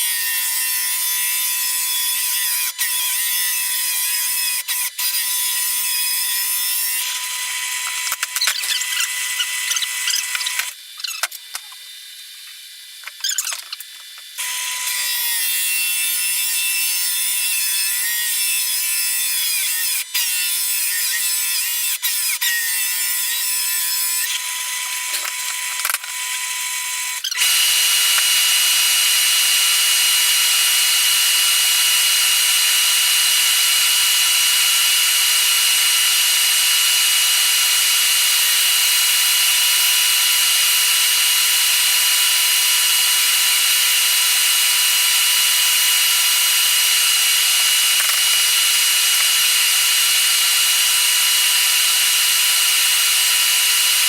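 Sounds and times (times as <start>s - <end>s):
power tool cutting wood: 0.0s - 54.0s.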